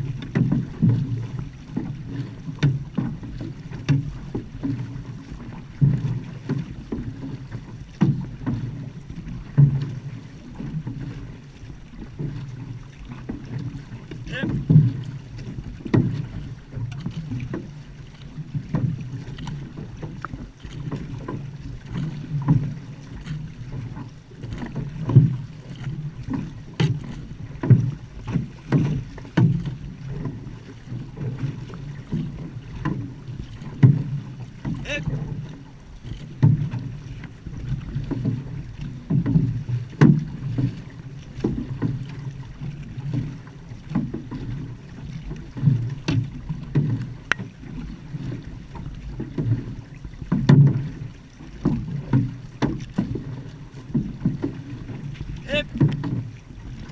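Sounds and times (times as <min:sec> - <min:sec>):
paddles pulling through water: 0:00.0 - 0:56.9.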